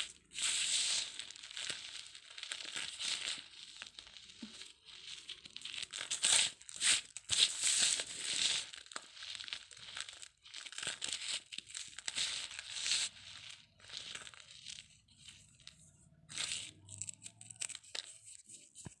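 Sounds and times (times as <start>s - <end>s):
dry cement crunching: 0.2s - 18.0s.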